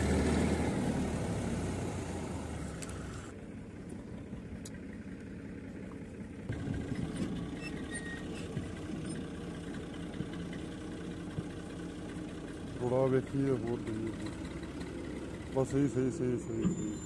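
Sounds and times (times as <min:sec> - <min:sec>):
tractor diesel engine straining: 0:00.0 - 0:17.0.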